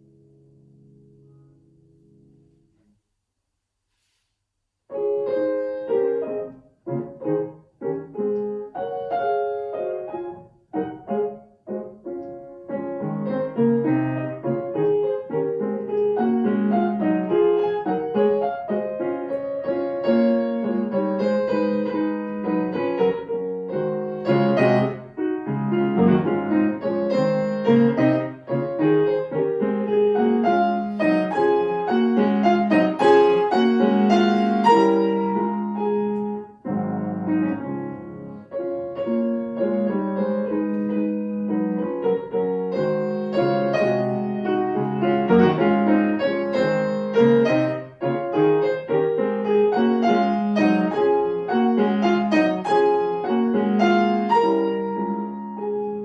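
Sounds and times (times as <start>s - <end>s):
solo grand piano: 0.0s - 3.1s, 3.8s - 56.0s.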